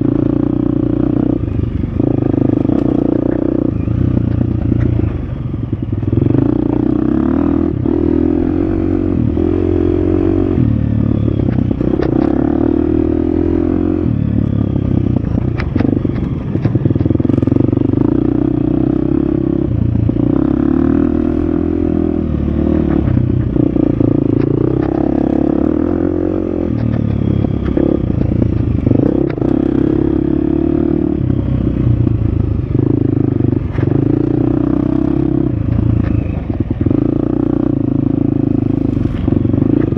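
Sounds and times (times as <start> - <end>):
dirt bike engine revving: 0.0 - 32.1.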